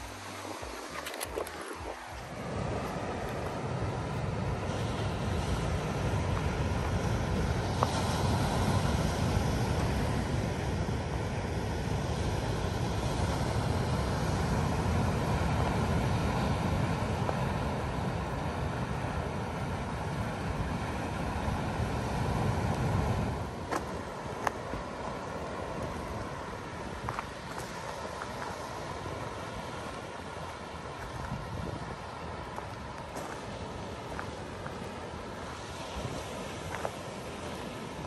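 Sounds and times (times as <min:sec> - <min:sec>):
surf breaking on rocky shore: 0:00.0 - 0:38.0
wind rumbling on microphone: 0:00.0 - 0:38.0.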